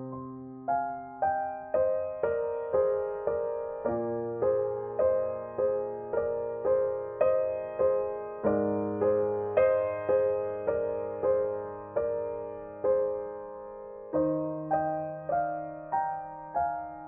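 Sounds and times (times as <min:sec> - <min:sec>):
slow gentle piano notes: 0:00.0 - 0:17.0.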